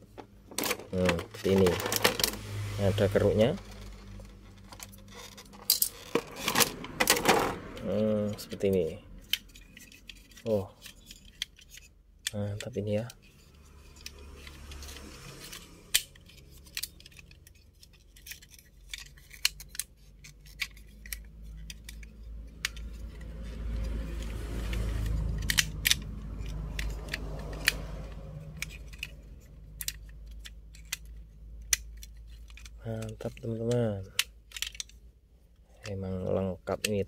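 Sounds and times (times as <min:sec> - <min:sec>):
plastic toy parts clicking and snapping: 0:00.2 - 0:02.4, 0:03.6 - 0:37.0.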